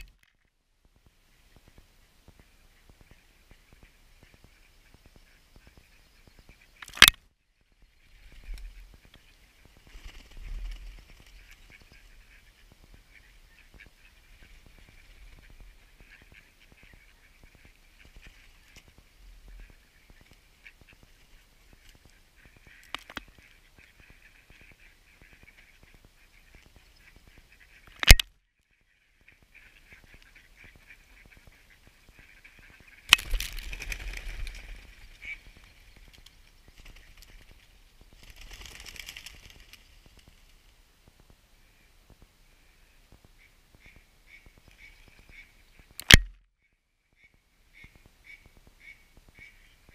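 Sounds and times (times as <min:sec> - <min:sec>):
ducks calling softly: 0:00.0 - 0:49.9.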